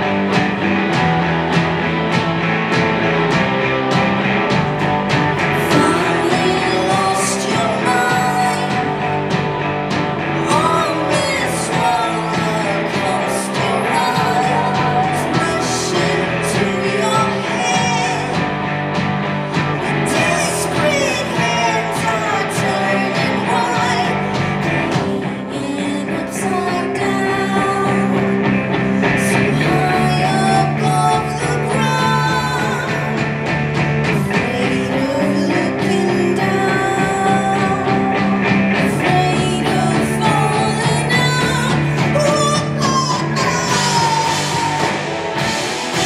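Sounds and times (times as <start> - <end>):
live rock band playing: 0.0 - 46.0
person singing: 5.4 - 9.7, 10.3 - 18.7, 19.4 - 33.3, 34.1 - 46.0.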